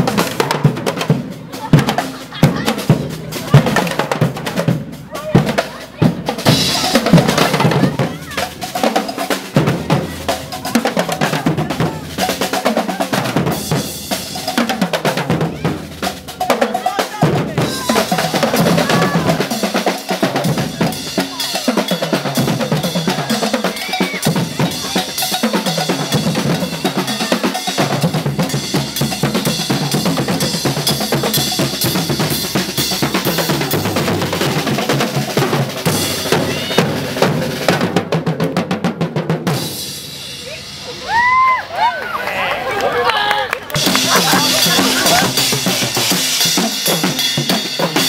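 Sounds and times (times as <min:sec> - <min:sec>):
snare drums: 0:00.0 - 0:41.4, 0:43.5 - 0:48.0
marching bass drums: 0:00.0 - 0:41.5, 0:43.6 - 0:48.0.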